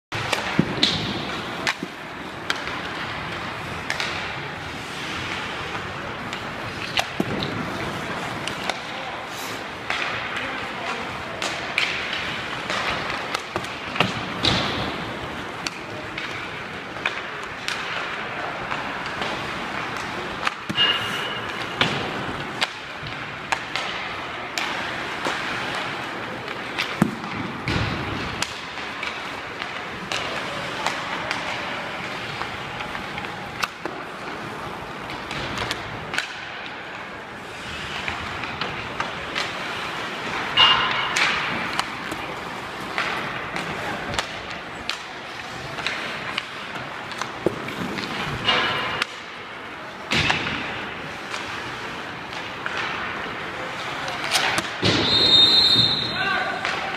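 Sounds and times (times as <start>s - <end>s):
skates on ice: 0.1s - 56.9s
pucks cracking off sticks: 0.2s - 56.9s.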